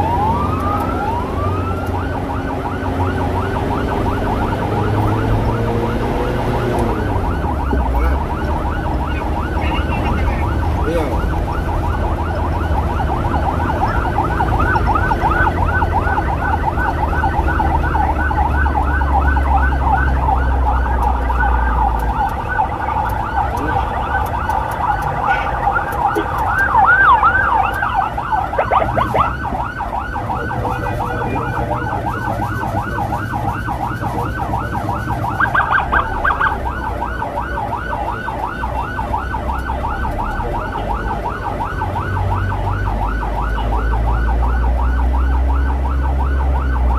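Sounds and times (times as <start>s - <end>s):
siren yelping: 0.0s - 46.9s.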